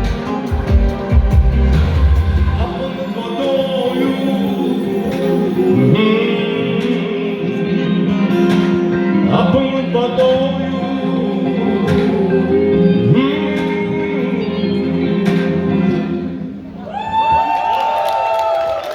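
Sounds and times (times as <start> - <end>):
pop song with guitar: 0.0 - 16.7.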